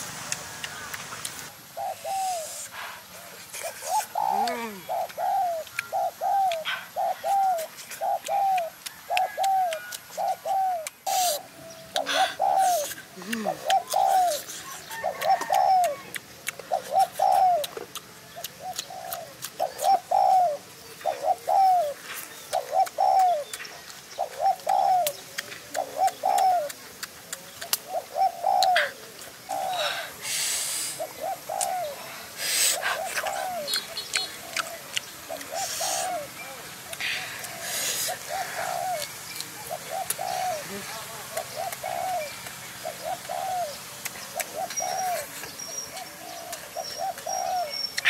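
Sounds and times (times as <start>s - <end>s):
bird calling: 0.4s - 48.0s.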